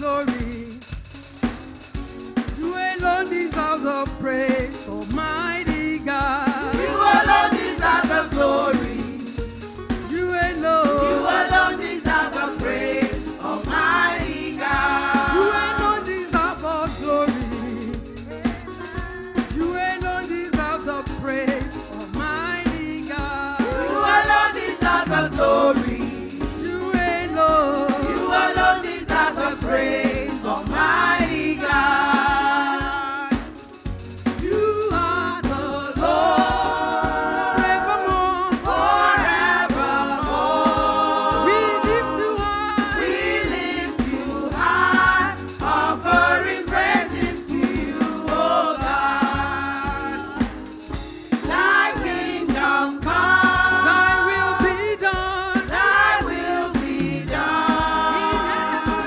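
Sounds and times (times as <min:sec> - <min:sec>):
drums: 0:00.0 - 0:59.0
shaker rhythm: 0:00.0 - 0:59.0
group of voices singing: 0:03.1 - 0:09.5, 0:10.1 - 0:33.8, 0:34.4 - 0:59.0.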